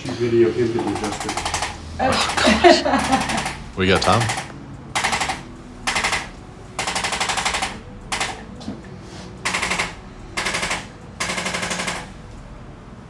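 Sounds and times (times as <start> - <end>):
rapid mechanical tapping: 0.0 - 12.7.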